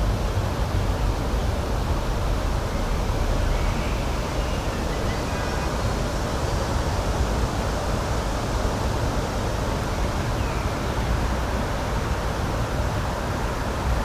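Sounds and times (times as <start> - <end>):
outdoor nature ambience rushing: 0.1 - 14.0.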